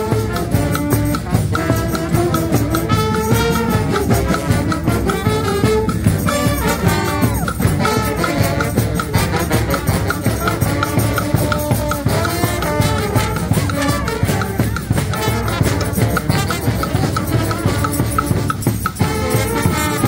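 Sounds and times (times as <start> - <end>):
bass drum beat: 0.0 - 20.0
brass band playing: 0.0 - 20.0.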